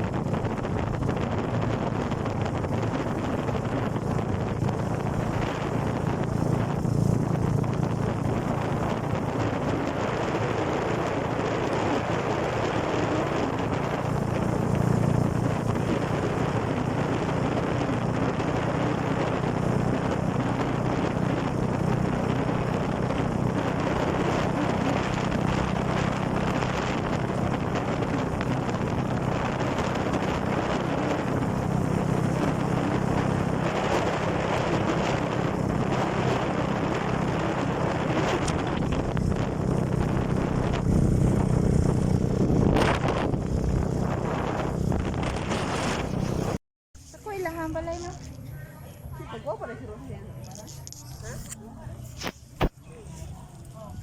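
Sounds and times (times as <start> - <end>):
vehicle engine hum: 0.0 - 54.0.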